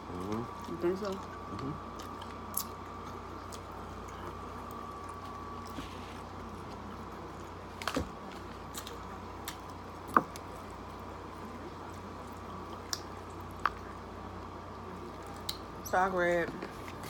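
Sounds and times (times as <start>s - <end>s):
wet chewing: 0.0s - 15.8s.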